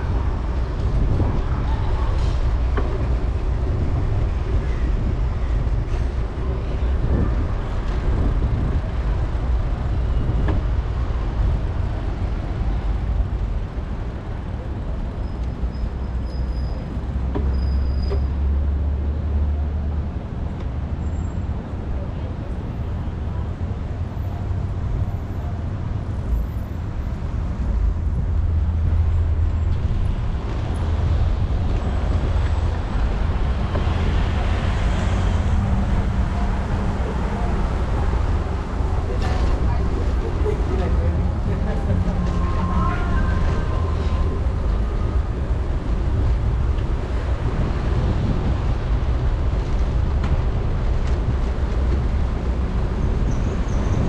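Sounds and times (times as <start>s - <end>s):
wind buffeting microphone: 0.0s - 15.2s, 25.8s - 54.0s
road and traffic noise: 0.0s - 54.0s.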